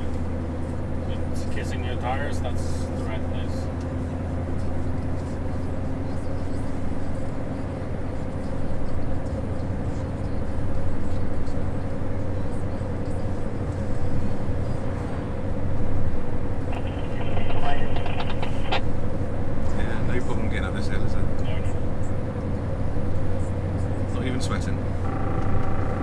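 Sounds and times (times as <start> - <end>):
truck engine drone: 0.0 - 26.0
tyre and road noise: 0.0 - 26.0.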